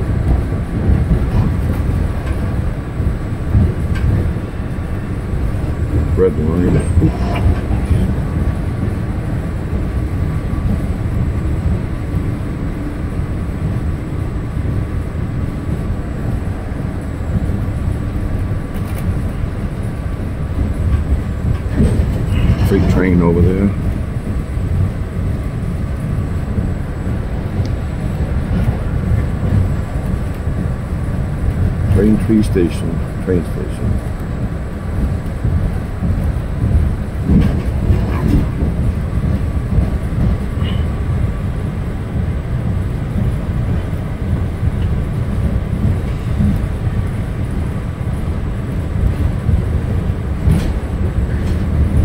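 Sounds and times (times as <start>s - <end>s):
subway car wheels rumbling: 0.0s - 52.0s.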